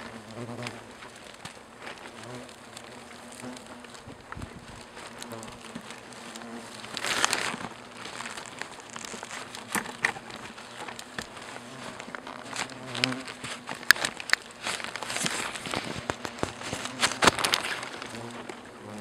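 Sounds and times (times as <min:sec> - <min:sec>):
hornets buzzing: 0:00.0 - 0:19.0
plastic bag rustling: 0:00.0 - 0:19.0.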